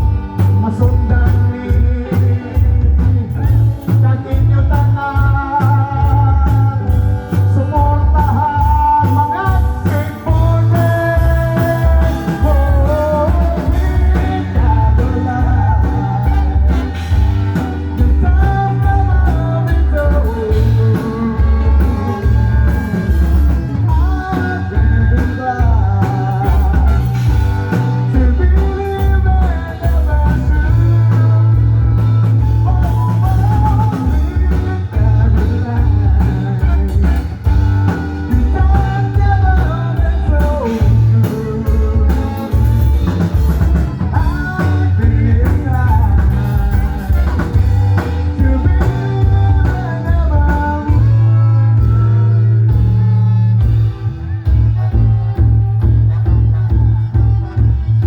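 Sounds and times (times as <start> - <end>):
electric guitar: 0.0 - 58.0
rock band playing: 0.0 - 58.0.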